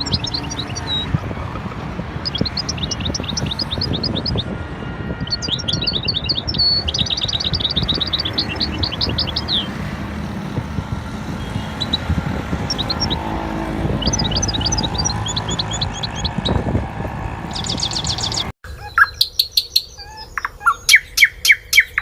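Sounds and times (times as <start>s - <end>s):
small birds chirping trills: 0.0s - 4.6s, 5.2s - 10.6s, 11.2s - 22.0s
steady low rumble: 0.0s - 18.5s.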